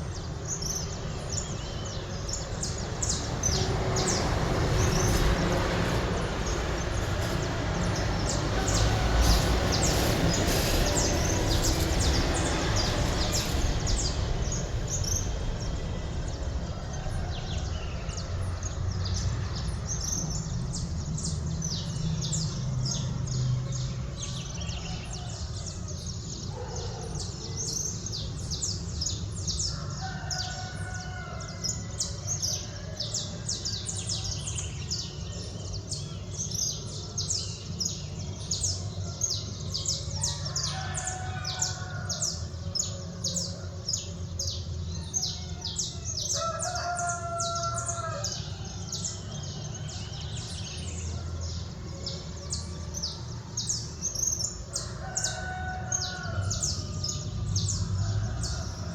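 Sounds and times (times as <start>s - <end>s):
low city rumble: 0.0s - 58.9s.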